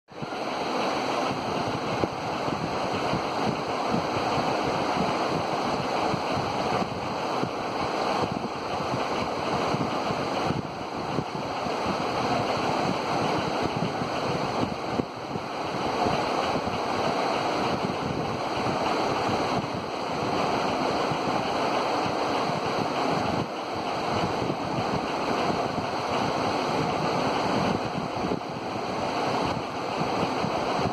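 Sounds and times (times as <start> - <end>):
fan blades rushing air: 0.1 - 30.9.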